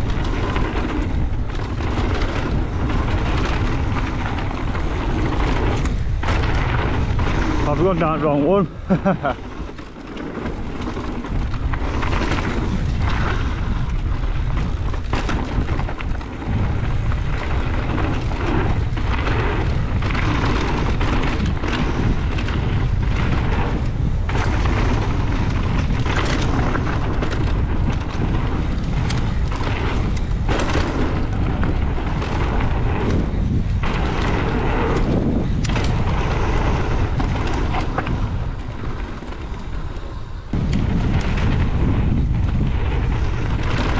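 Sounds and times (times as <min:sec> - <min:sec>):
bike knocking and rattling: 0:00.0 - 0:43.9
tyres on dirt trail: 0:00.0 - 0:43.9
wind buffeting microphone: 0:00.0 - 0:43.9.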